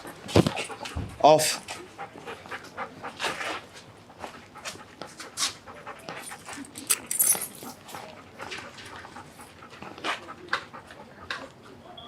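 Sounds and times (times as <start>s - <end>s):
dog panting: 0.0s - 11.9s.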